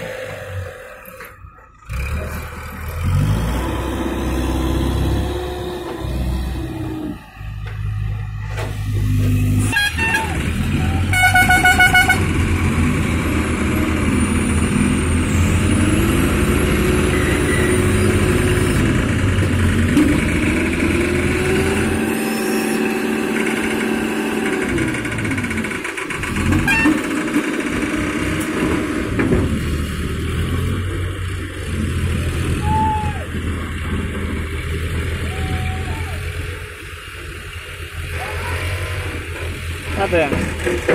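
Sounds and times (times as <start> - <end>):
diesel crane engines revving: 0.0 - 40.9.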